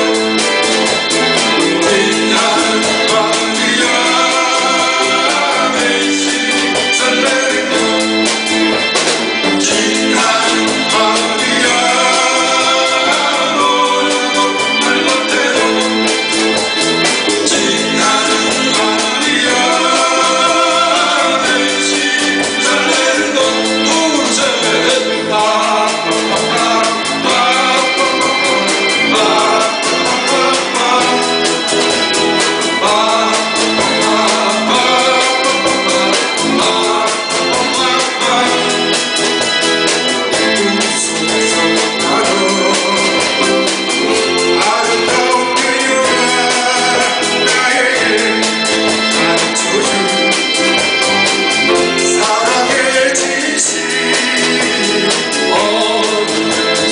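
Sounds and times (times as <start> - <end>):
live band playing pop song: 0.0 - 56.9
person singing: 0.0 - 56.9.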